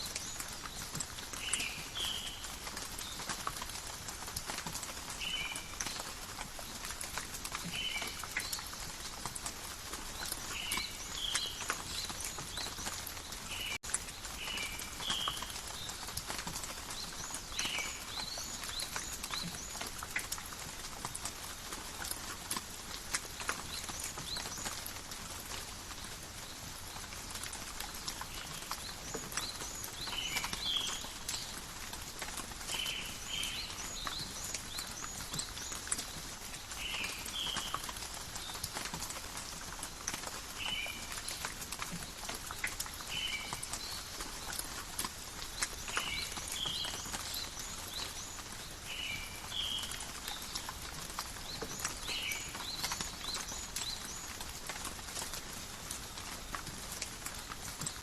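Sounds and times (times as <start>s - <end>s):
small birds chirping: 0.0s - 56.8s
gentle rain pattering: 0.0s - 58.0s
water drips: 0.0s - 58.0s.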